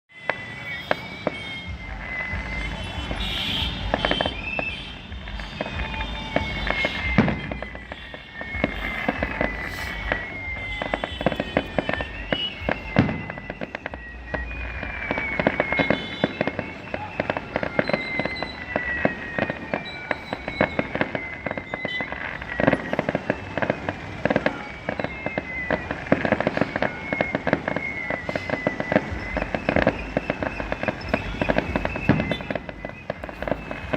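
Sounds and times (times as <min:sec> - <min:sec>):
fireworks bangs and crackles: 0:00.1 - 0:33.9
fireworks whistles: 0:00.1 - 0:33.9.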